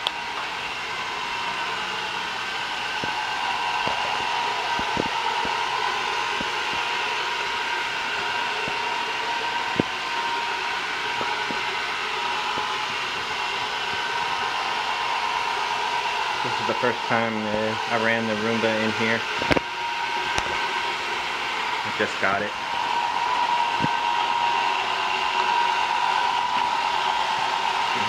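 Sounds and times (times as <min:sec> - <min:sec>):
robot vacuum motor whine: 0:00.0 - 0:28.0.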